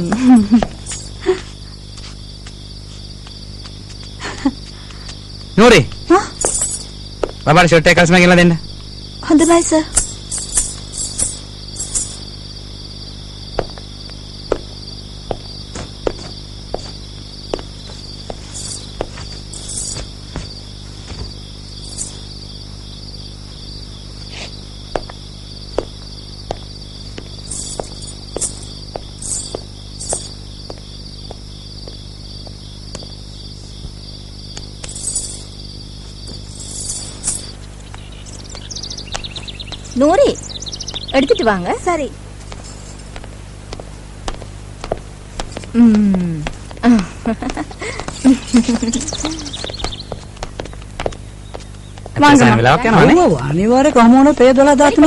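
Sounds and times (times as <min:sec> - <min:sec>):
insect chorus chirring: 0:00.0 - 0:55.0
low steady hum: 0:00.0 - 0:55.0.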